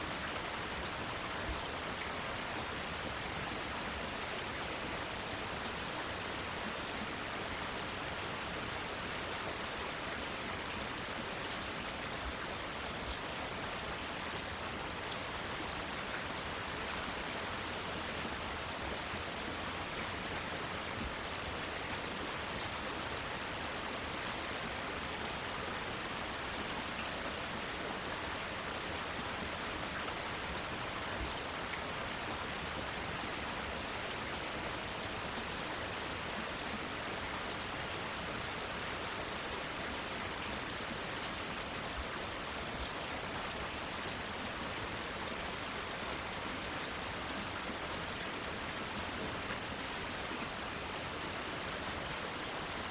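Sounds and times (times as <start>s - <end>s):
rain on foliage: 0.0s - 52.9s.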